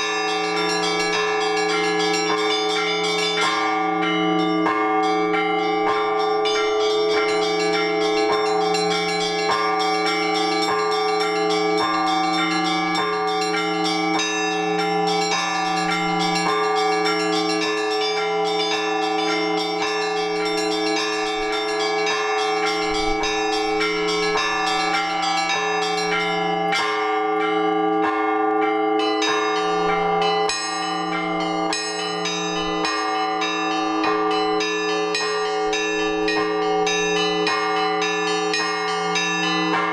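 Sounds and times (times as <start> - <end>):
deep church bells humming: 0.0 - 39.9.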